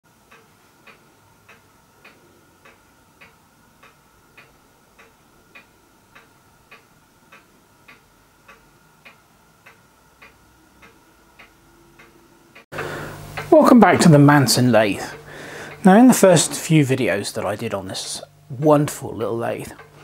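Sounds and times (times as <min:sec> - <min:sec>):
faint steady hum: 0:00.1 - 0:20.0
faint ticking: 0:00.1 - 0:20.0.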